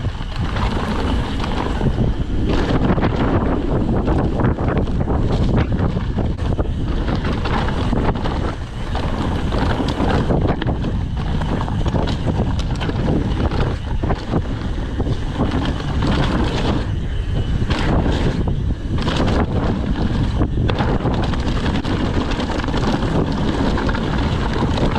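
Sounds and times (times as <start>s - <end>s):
bike rattling knocks: 0.0s - 24.9s
bike tyre noise: 0.0s - 24.9s
wind rushing over camera: 0.0s - 24.9s.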